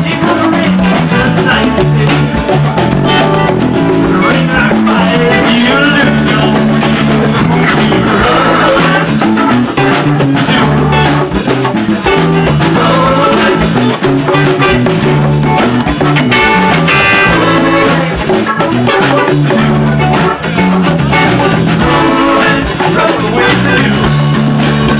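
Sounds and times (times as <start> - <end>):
bass line: 0.0 - 24.9
drum kit beat: 0.0 - 24.9
live band playing upbeat music: 0.0 - 24.9.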